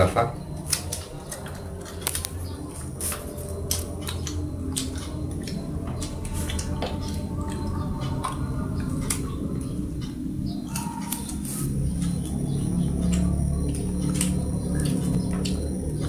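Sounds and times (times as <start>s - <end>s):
steady low hum: 0.0s - 16.0s
monkey chewing: 0.4s - 16.0s.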